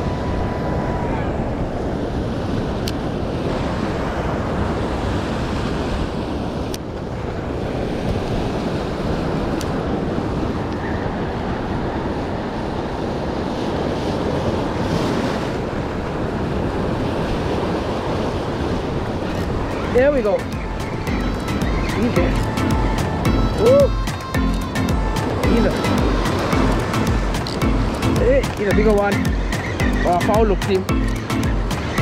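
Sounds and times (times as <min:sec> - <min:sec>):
surf washing over rocks: 0:00.0 - 0:32.0
wind buffeting microphone: 0:00.0 - 0:32.0.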